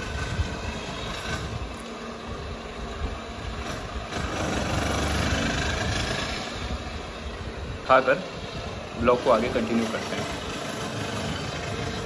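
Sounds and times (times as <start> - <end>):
ceiling fan air rushing: 0.0 - 12.0
wind buffeting microphone: 0.0 - 12.0.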